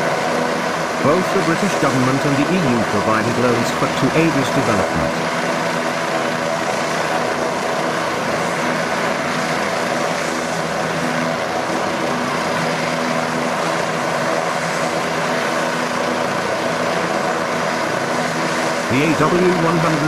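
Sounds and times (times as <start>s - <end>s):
helicopter engines and rotors: 0.0s - 20.0s.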